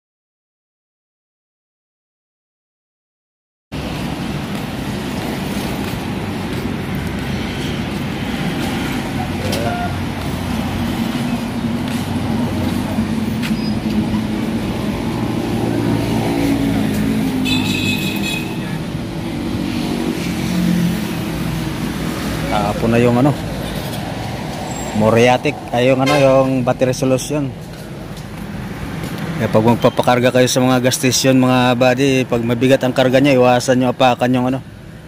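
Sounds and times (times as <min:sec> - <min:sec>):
traffic noise: 0:03.7 - 0:35.0.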